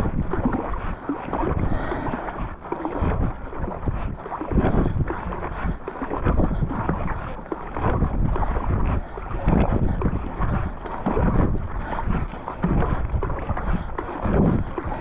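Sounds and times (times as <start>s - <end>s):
paddle splashing in water: 0.0s - 15.0s
wind buffeting microphone: 0.0s - 15.0s.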